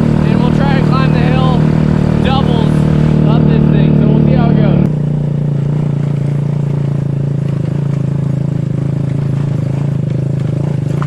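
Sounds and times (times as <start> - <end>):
motor scooter engine running: 0.0 - 11.0.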